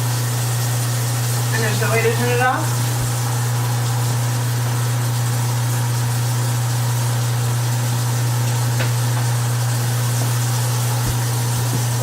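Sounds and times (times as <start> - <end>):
garbage disposal motor humming: 0.0 - 12.0.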